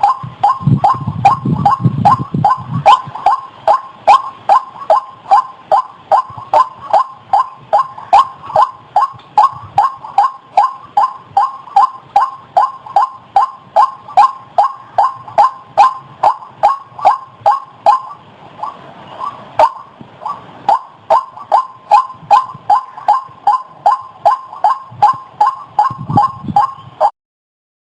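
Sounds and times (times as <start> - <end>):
waterhen calling harsh notes: 0.0 - 27.1.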